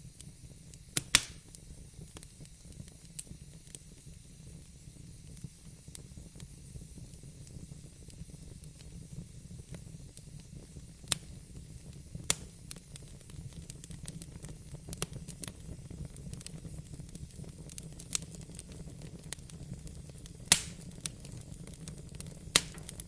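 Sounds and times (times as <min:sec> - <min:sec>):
wood fire burning: 0:00.0 - 0:23.0.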